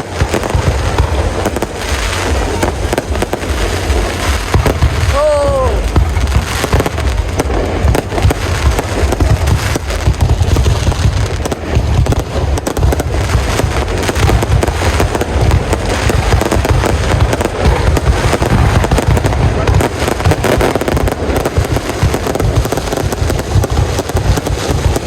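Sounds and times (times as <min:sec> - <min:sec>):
fireworks bangs and crackles: 0:00.0 - 0:25.0
heavy low booms: 0:00.0 - 0:25.0.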